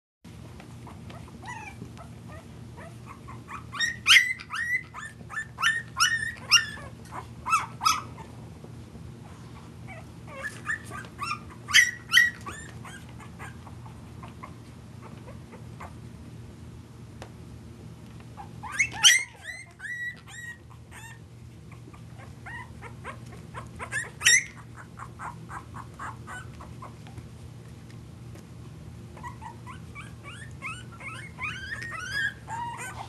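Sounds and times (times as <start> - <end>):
puppies whimpering and squealing: 0.7 - 8.4, 9.2 - 16.0, 18.4 - 27.2, 29.1 - 33.0.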